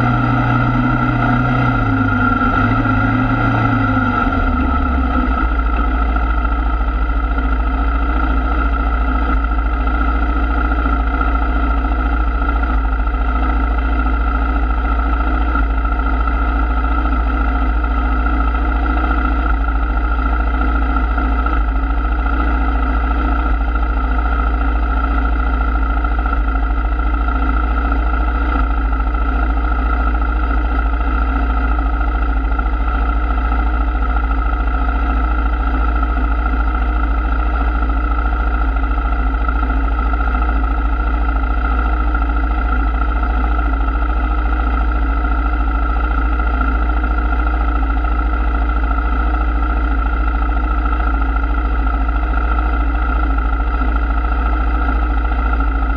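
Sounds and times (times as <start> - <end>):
atv engine idling: 0.0 - 55.9.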